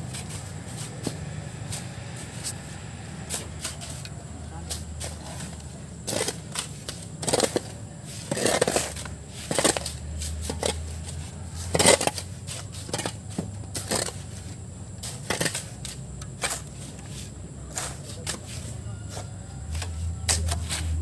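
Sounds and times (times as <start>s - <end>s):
shovels scraping sand: 0.0s - 21.0s.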